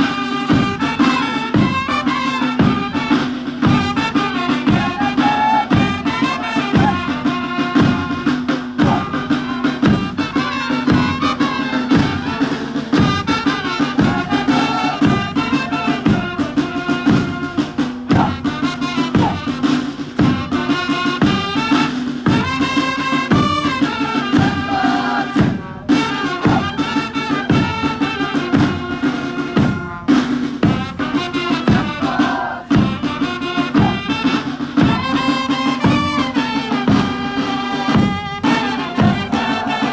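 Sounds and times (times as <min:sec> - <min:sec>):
steady drum beat: 0:00.0 - 0:39.9.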